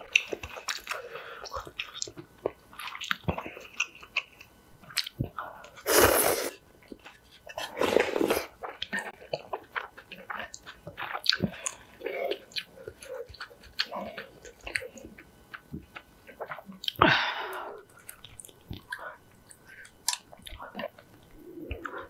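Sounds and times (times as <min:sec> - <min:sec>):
wet chewing: 0:00.0 - 0:05.9, 0:06.8 - 0:17.1, 0:17.8 - 0:22.0.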